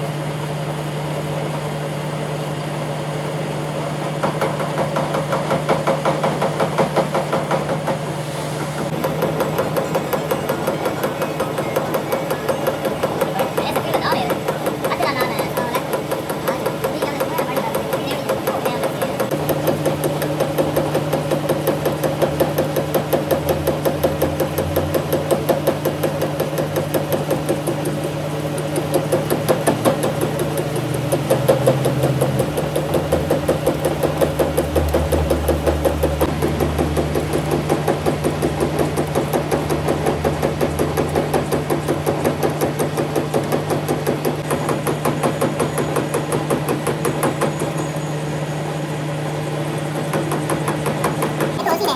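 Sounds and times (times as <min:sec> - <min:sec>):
metalworking machine knocking: 0:00.5 - 0:51.9.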